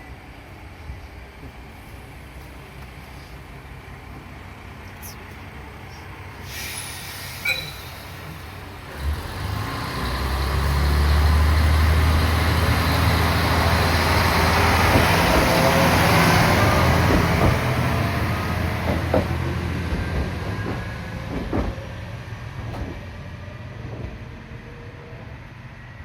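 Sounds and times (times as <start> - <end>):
diesel railcar engine droning: 0.0 - 26.0.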